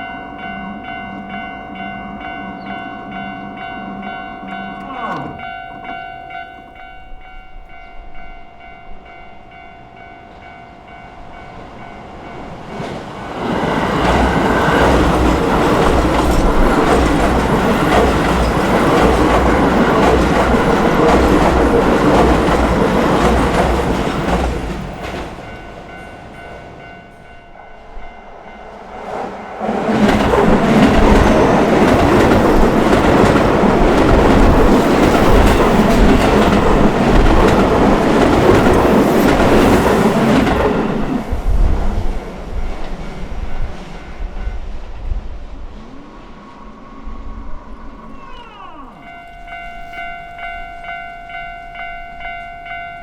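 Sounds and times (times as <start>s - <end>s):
level crossing warning bell ringing: 0.0s - 12.8s, 13.6s - 41.0s, 48.2s - 53.0s
electric train rumbling over rails: 0.0s - 53.0s.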